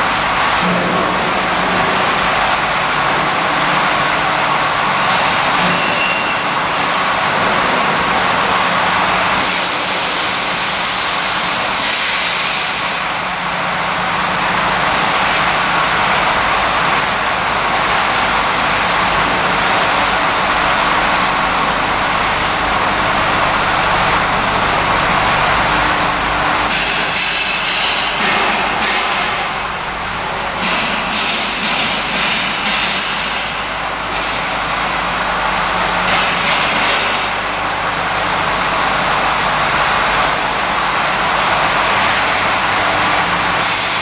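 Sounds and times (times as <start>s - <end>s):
milling machine running: 0.0s - 44.0s.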